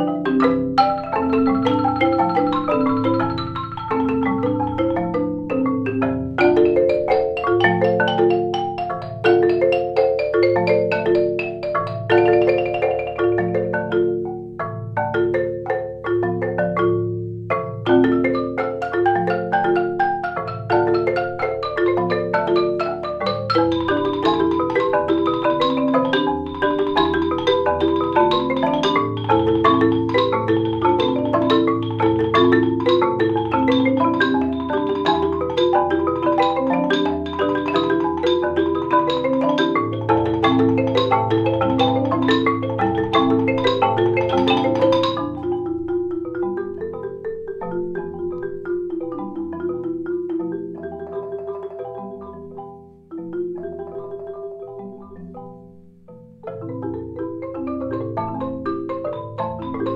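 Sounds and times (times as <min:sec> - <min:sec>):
marimba quartet playing: 0:00.0 - 0:59.9.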